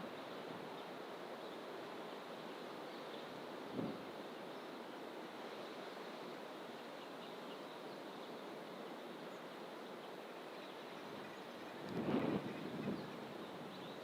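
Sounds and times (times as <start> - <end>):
continuous bush rush: 0.0 - 14.0.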